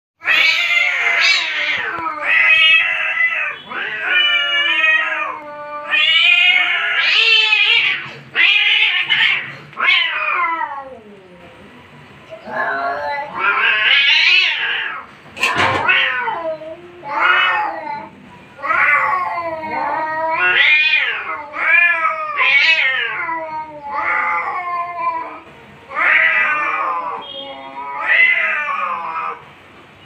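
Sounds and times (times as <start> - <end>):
cats yowling: 0.2 - 11.6, 12.4 - 29.4.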